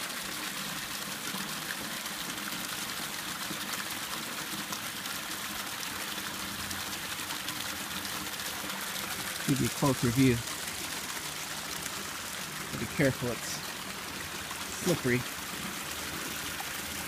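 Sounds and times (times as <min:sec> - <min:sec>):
water pouring into plastic jug: 0:00.0 - 0:17.0
water trickling over rocks: 0:00.0 - 0:17.0.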